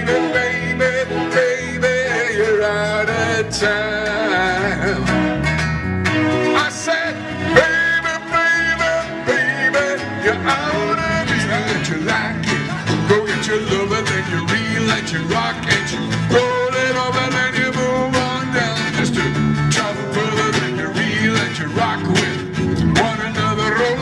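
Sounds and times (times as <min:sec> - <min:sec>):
live band playing pop song: 0:00.0 - 0:24.0.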